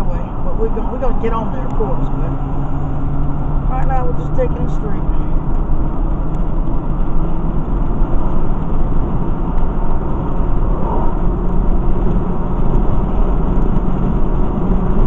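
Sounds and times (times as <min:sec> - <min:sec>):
vehicle road noise inside cabin: 0:00.0 - 0:15.0.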